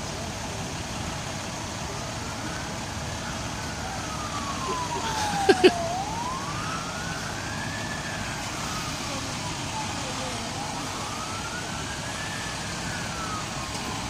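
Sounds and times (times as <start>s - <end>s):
siren wailing: 1.8s - 14.0s.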